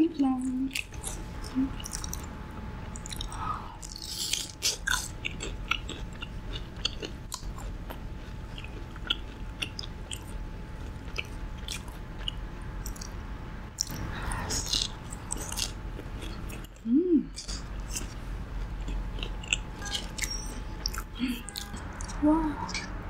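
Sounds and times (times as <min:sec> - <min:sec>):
person chewing crisp food: 0:00.7 - 0:13.2, 0:13.8 - 0:23.0.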